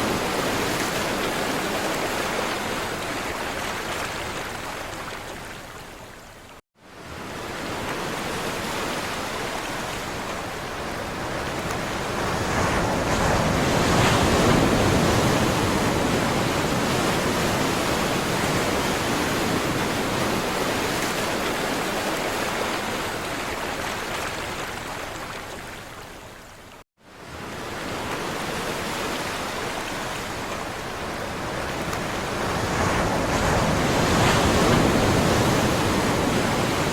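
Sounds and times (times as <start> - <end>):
sea waves washing on shore: 0.0 - 6.2, 6.9 - 26.5, 27.1 - 36.9.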